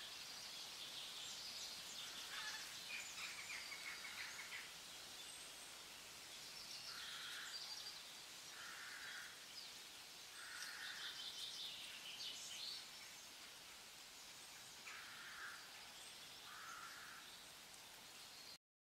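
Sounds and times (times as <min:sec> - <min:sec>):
steady hiss: 0:00.0 - 0:18.6.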